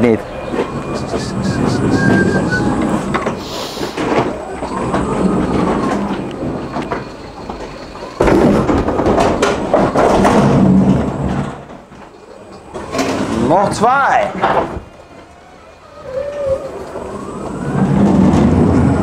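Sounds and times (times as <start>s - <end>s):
pallet truck wheels rattling: 0.0s - 19.0s.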